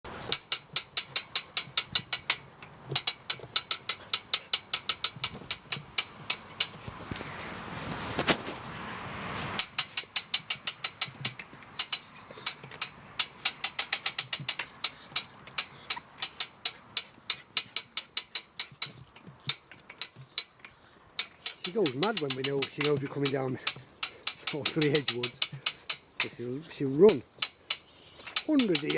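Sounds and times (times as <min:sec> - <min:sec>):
winch ratchet clicking: 0:00.2 - 0:06.8, 0:09.6 - 0:26.4, 0:27.0 - 0:28.9.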